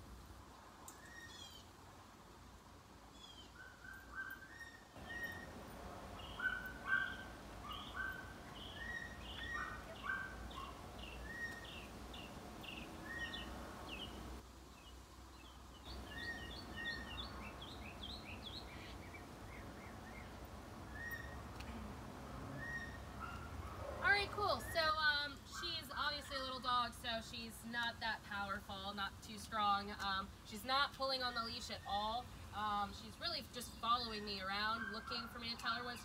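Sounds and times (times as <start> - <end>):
songbirds chirping: 0.4 - 36.0.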